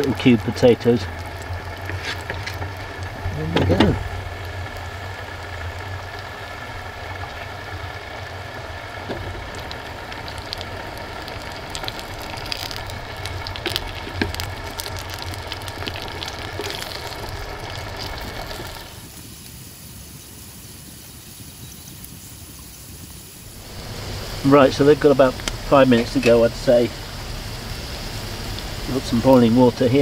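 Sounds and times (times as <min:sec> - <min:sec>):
fat spitting and crackling: 0:00.0 - 0:19.0, 0:23.6 - 0:29.9
potatoes sizzling in fat: 0:00.0 - 0:30.0.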